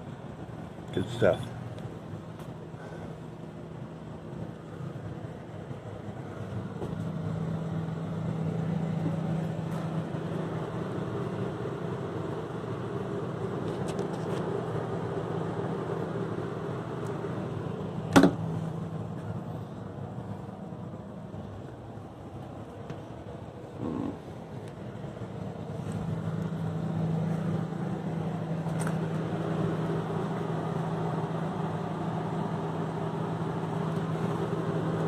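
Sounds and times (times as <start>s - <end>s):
refrigerated coolers humming: 0.0s - 35.0s.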